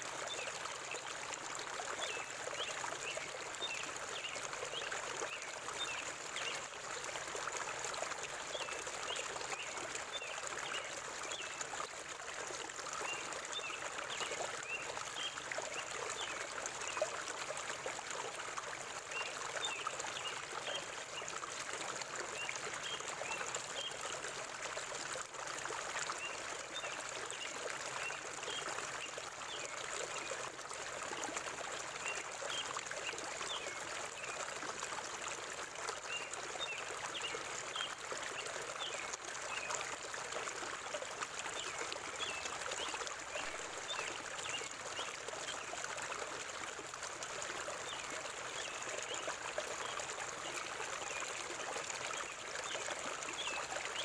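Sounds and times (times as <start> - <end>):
river water flowing and trickling: 0.0 - 54.0.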